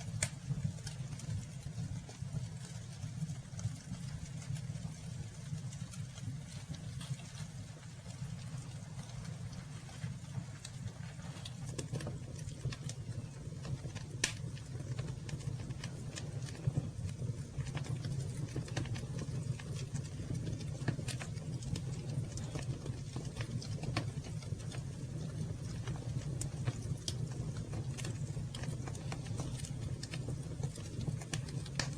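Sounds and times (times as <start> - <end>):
campfire crackling: 0.0 - 31.9
steady low rumble: 0.0 - 31.9.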